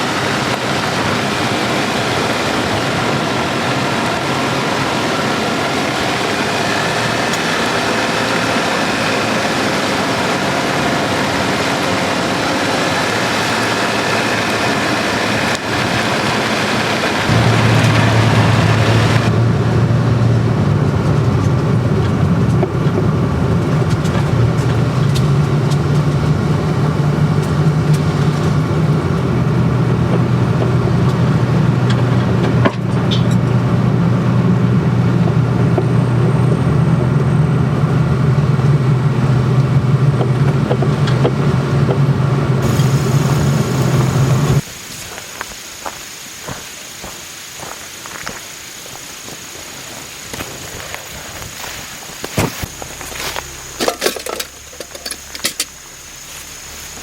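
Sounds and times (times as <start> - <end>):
car engine: 0.0 - 44.7, 51.0 - 57.0
road noise: 0.0 - 57.0.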